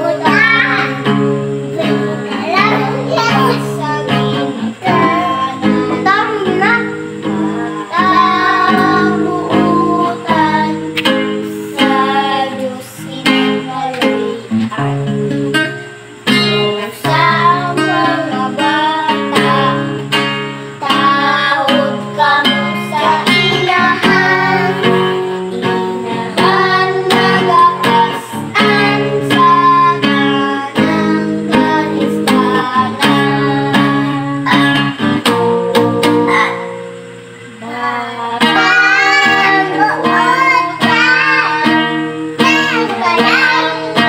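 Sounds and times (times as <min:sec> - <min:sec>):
children singing: 0:00.0 - 0:15.1, 0:16.5 - 0:36.8, 0:37.5 - 0:44.0
acoustic guitar: 0:00.0 - 0:44.0.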